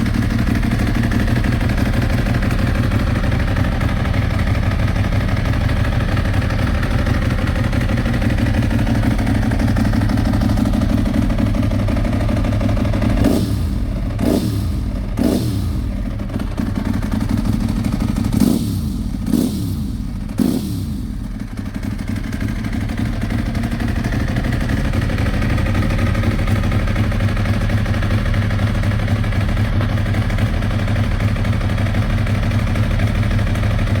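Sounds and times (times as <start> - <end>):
motorcycle engine idling: 0.0 - 34.0
motorcycle engine revving: 0.0 - 34.0.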